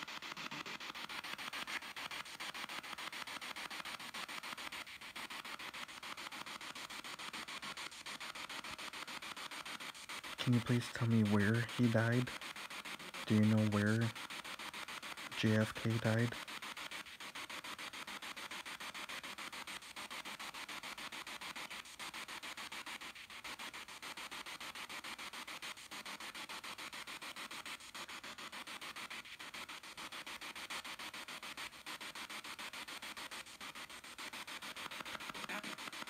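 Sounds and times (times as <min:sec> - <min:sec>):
pulsing radio static: 0:00.0 - 0:36.0.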